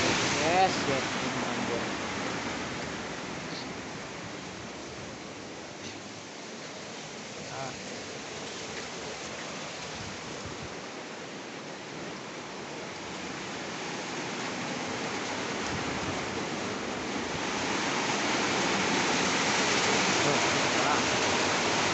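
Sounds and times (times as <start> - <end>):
heavy rain pouring: 0.0 - 21.9.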